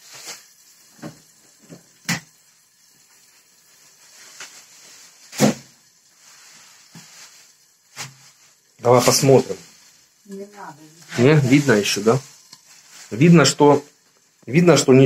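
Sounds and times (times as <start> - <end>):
eggs and sausages sizzling: 0.0 - 15.0.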